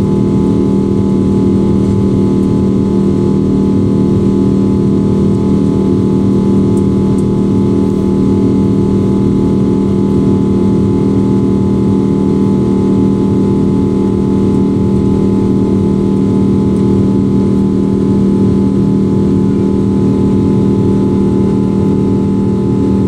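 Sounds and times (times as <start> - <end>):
airplane cabin engine drone: 0.0 - 23.0.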